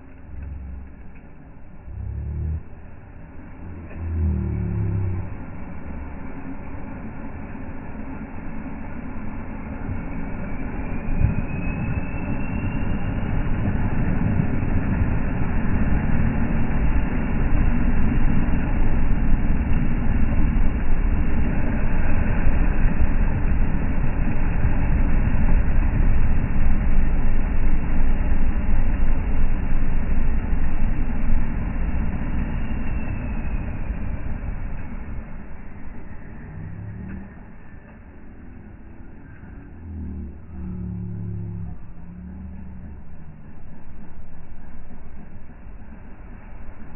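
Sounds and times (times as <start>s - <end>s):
truck engine rumbling under load: 0.0s - 46.9s.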